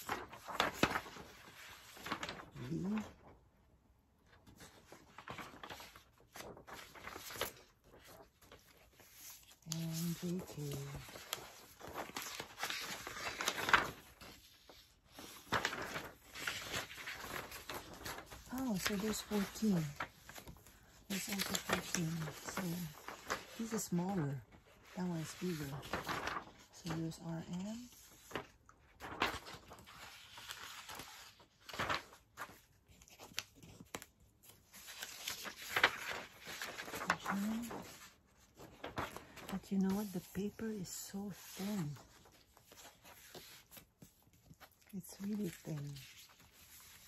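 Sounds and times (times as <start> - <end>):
paper sheets rustling: 0.0 - 3.4, 4.2 - 47.0.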